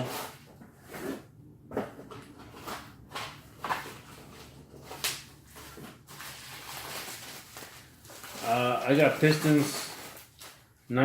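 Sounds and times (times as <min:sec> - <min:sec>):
packaging rustling and knocking: 0:00.0 - 0:10.7.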